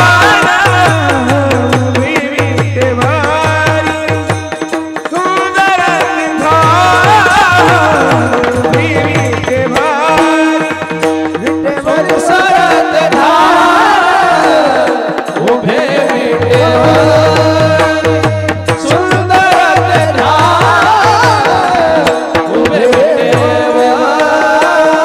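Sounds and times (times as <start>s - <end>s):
held accompaniment tones: 0.0s - 25.0s
man singing: 0.0s - 25.0s.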